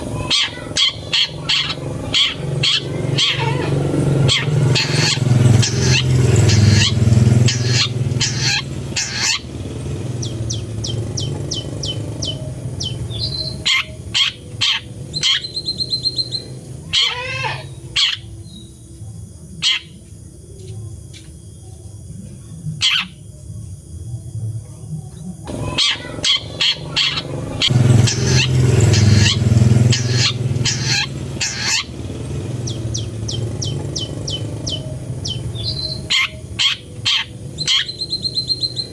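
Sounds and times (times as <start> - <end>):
bird singing harsh notes: 0.0 - 18.7, 25.6 - 38.9
low steady rumble: 0.0 - 19.7, 22.0 - 38.9.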